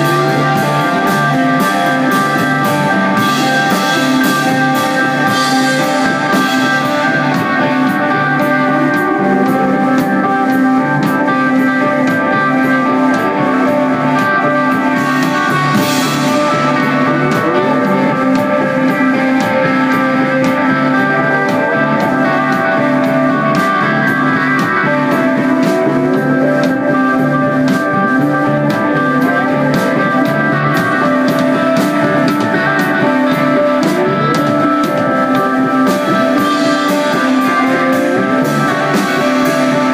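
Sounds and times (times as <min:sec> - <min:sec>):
drum kit: 0:00.0 - 0:39.9
electric guitar notes: 0:00.0 - 0:39.9.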